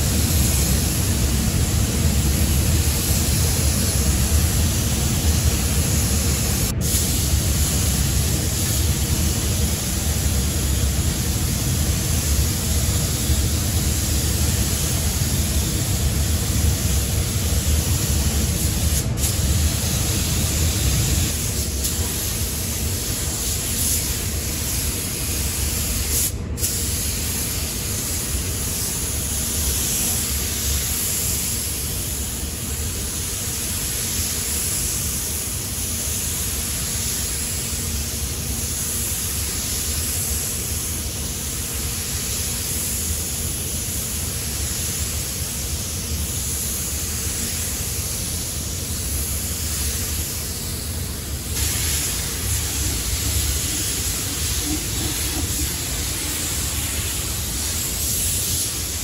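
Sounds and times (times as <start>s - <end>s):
spray gun hissing: 0.0s - 59.0s.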